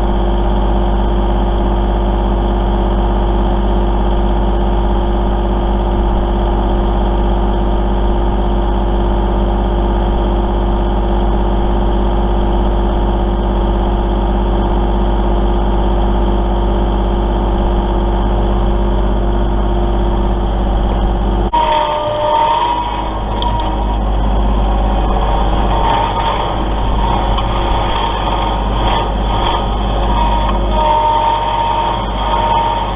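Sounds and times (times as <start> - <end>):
tractor diesel engine running: 0.0 - 32.9
whining tone: 2.9 - 32.9.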